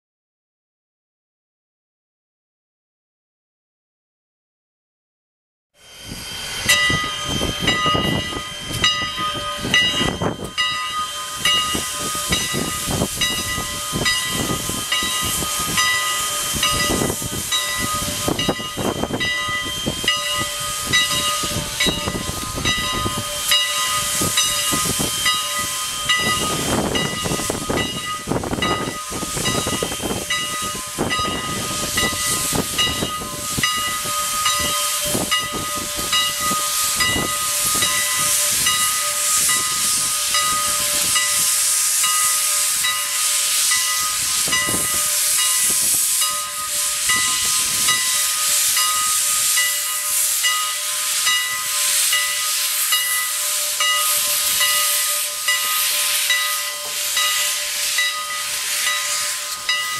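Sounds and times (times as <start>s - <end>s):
steady high tone: 5.8s - 59.9s
steam hissing: 5.8s - 59.9s
steam locomotive chuffs: 5.8s - 59.9s.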